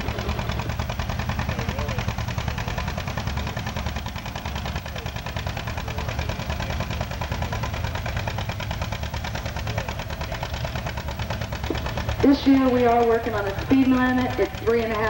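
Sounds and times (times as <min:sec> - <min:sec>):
tractor engine popping under load: 0:00.0 - 0:15.0.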